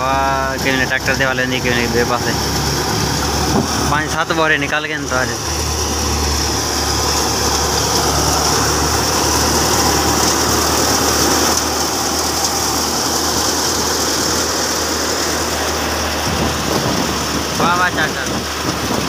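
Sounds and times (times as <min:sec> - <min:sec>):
tractor engine hum: 0:00.0 - 0:19.0
chaff and grain hissing: 0:00.1 - 0:18.5.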